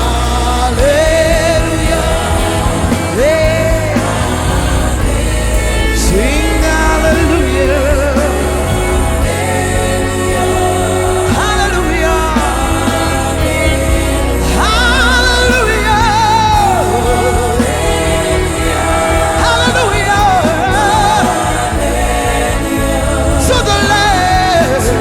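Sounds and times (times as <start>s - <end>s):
backing singers: 0.0s - 25.0s
lead voice singing gospel: 0.0s - 25.0s
steady bass: 0.0s - 25.0s.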